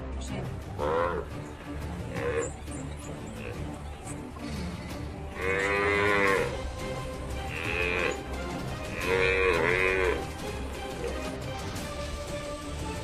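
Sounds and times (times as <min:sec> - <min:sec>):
buffalo lowing: 0:00.7 - 0:11.4.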